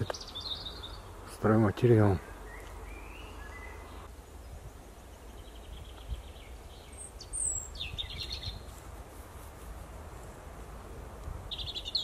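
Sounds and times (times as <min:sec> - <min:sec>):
songbirds singing: 0:00.0 - 0:08.8, 0:11.1 - 0:12.0.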